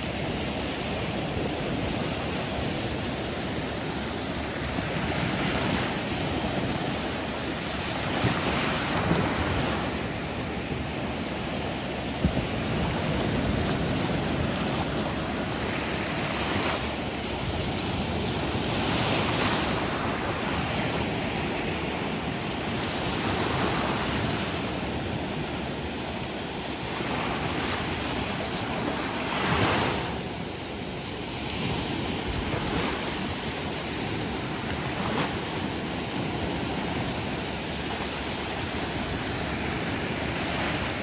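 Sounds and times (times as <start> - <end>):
sea waves breaking on shore: 0.0 - 41.0
wind rumble on microphone: 0.0 - 41.0.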